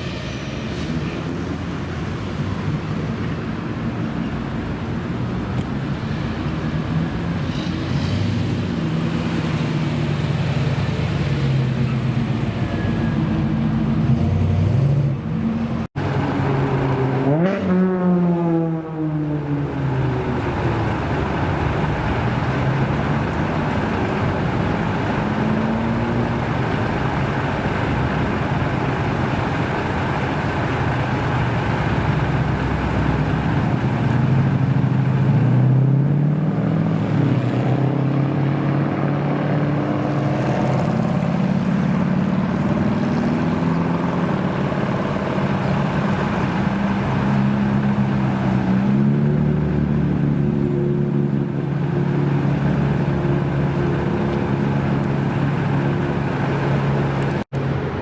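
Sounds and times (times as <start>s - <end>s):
car engine deep rumble: 0.0s - 58.0s.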